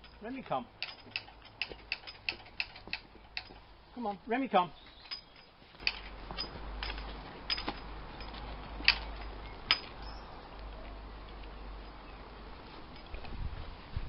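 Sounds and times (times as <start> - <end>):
harness fittings clicking and clinking: 0.0 - 3.8, 4.8 - 11.9, 12.7 - 13.4.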